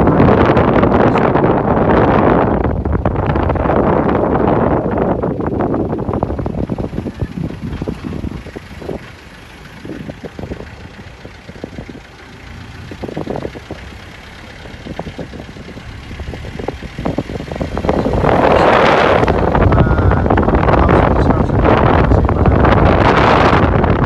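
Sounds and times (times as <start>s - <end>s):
car engine and road rumble: 0.0s - 24.0s
rattles: 0.0s - 24.0s
wind rushing over microphone: 0.0s - 24.0s.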